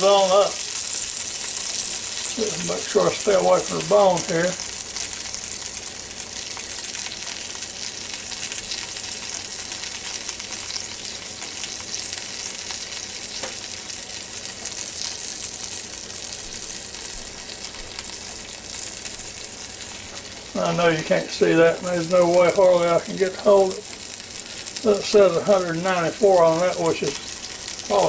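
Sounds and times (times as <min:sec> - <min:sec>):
chicken sizzling in air fryer: 0:00.0 - 0:28.0.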